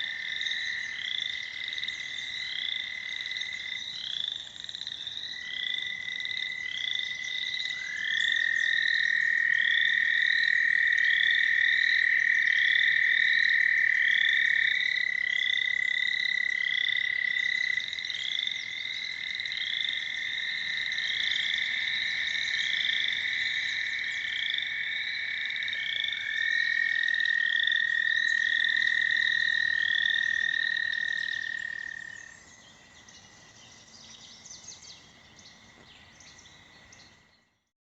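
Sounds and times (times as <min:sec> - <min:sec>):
toads trilling: 0:00.0 - 0:32.8
faint pond calls: 0:00.0 - 0:37.7.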